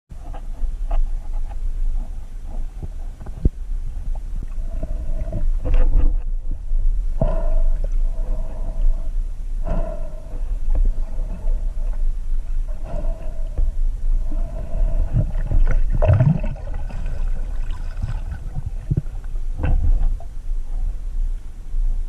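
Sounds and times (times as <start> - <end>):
underwater low rumble: 0.1 - 22.0.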